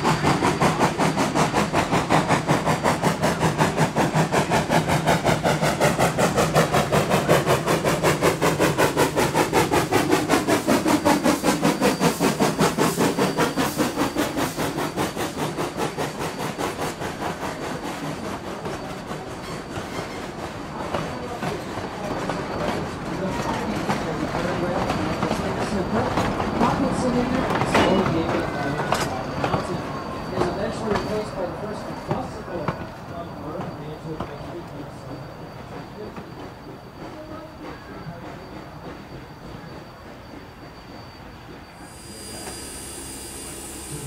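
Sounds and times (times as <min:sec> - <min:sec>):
steam locomotive chuffing: 0:00.0 - 0:44.0.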